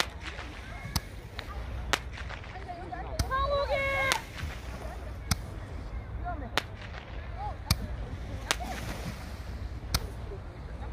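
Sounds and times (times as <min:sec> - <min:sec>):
fireworks cracking: 0:00.0 - 0:10.5.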